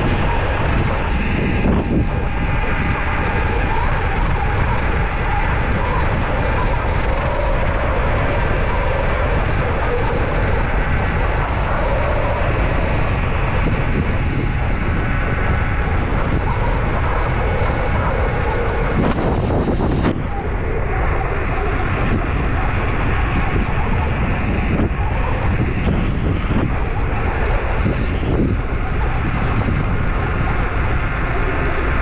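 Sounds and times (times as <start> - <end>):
bike ride noise: 0.0 - 32.0
wind buffeting microphone: 0.0 - 32.0.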